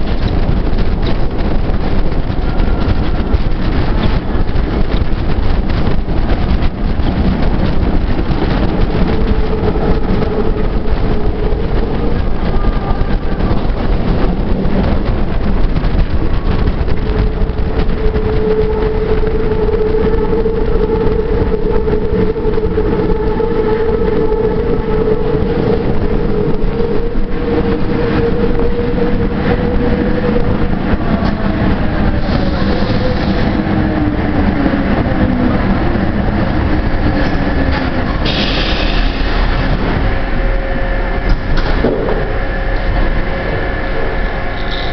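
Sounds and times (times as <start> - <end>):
steady whine: 0.0 - 44.9
train wheels rumbling on rails: 0.0 - 44.9.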